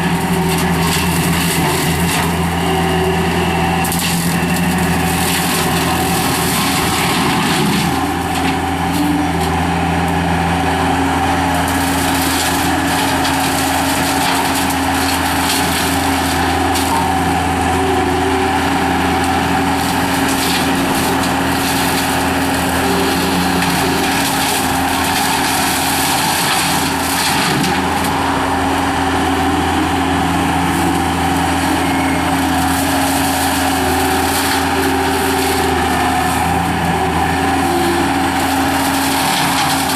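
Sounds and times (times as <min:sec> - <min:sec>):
skid steer engine running under load: 0:00.0 - 0:39.9.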